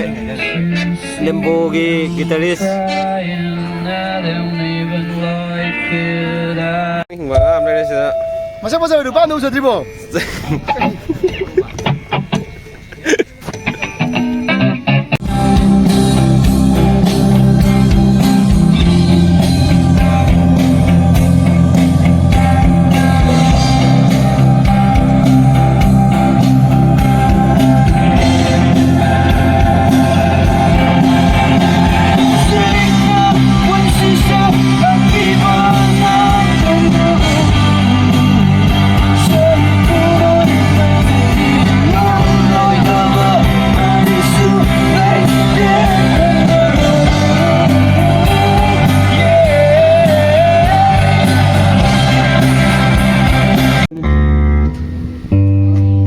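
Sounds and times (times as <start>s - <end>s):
person singing: 0.0s - 7.6s, 15.4s - 54.4s
rock band playing: 0.0s - 56.0s.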